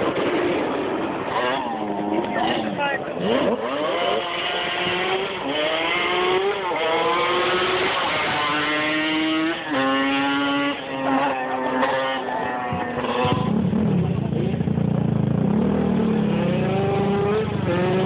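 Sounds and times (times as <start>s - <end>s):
atv engine accelerating: 0.0s - 18.0s.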